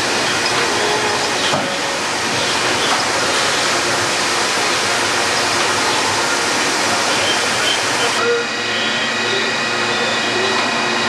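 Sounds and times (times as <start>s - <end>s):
sawmill machinery din: 0.0s - 11.0s.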